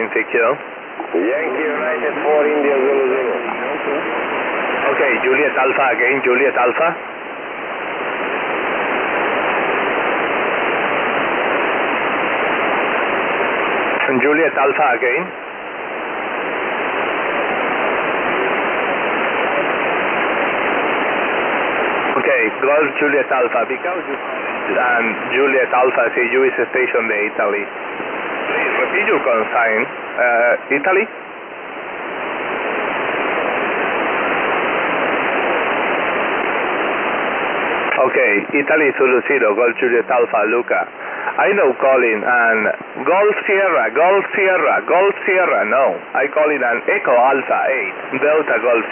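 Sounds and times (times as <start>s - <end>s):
shortwave receiver hiss: 0.0s - 48.9s.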